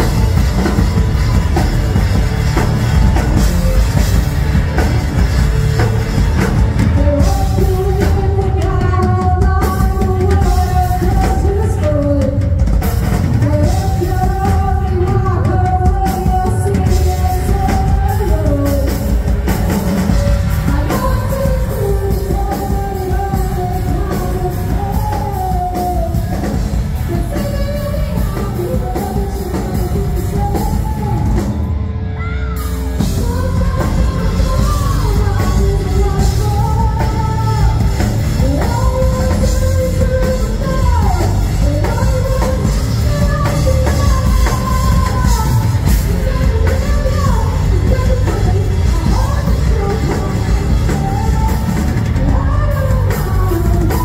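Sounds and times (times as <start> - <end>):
bass guitar: 0.0 - 54.0
drum kit: 0.0 - 54.0
electric guitar: 0.0 - 54.0
person singing: 0.0 - 54.0.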